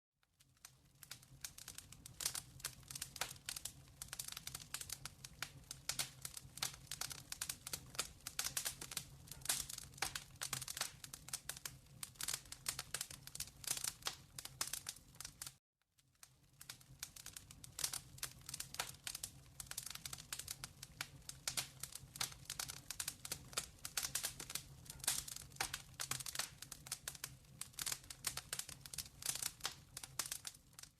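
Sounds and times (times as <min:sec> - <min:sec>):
wood fire crackling and popping: 0:00.2 - 0:30.9.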